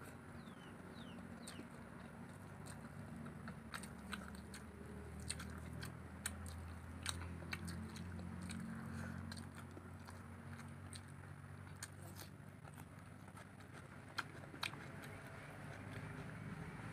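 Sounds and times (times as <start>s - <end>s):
chewing food wet clicks: 1.0s - 16.4s.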